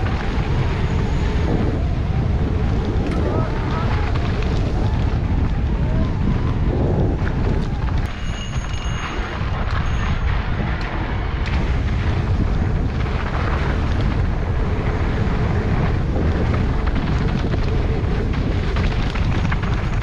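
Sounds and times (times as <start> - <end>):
bike clicks and rattles: 0.0 - 20.0
wind buffeting microphone: 0.0 - 20.0.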